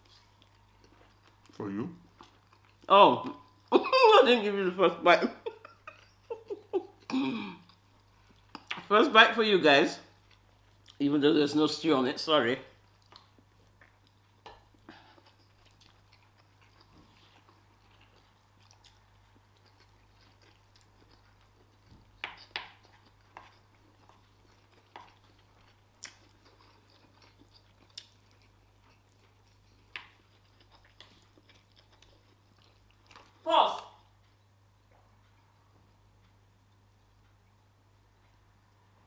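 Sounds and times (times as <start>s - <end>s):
faint chewing: 0.0s - 3.8s, 5.5s - 8.9s, 10.1s - 11.1s, 12.6s - 39.0s
low steady hum: 0.0s - 39.0s.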